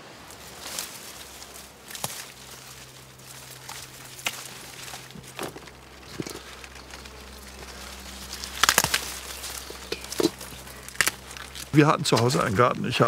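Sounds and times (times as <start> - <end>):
steady low hum: 0.0 - 13.0
plant stems clicking and snapping: 0.3 - 13.0.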